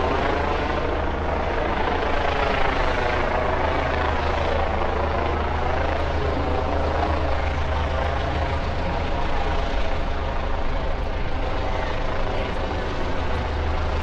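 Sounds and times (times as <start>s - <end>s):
engine drone with low hum: 0.0s - 14.0s
faint voices: 1.6s - 14.0s.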